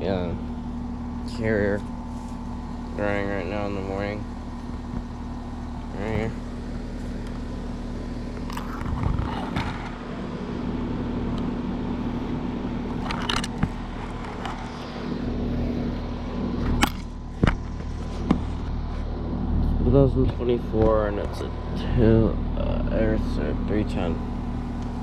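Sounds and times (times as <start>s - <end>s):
compressor humming: 0.0s - 25.0s
outdoor fan noise: 0.0s - 25.0s.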